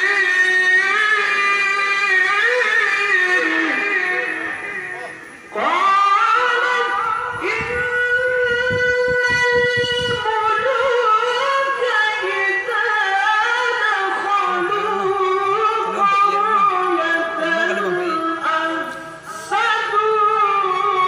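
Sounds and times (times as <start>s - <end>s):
person reciting in melodic chant: 0.0s - 21.0s.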